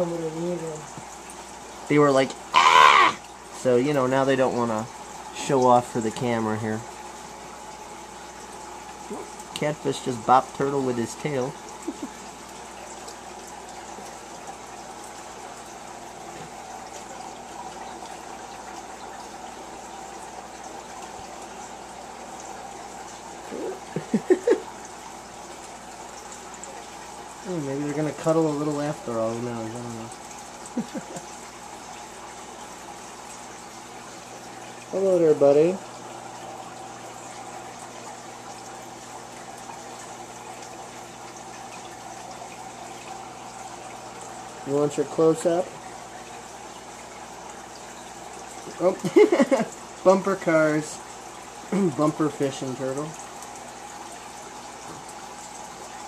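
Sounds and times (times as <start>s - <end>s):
water trickling and gushing: 0.0s - 56.0s.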